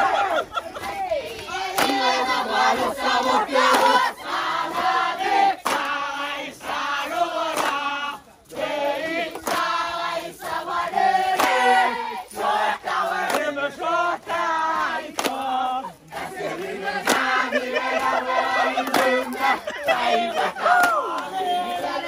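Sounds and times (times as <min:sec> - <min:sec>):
group chanting: 0:00.0 - 0:22.0.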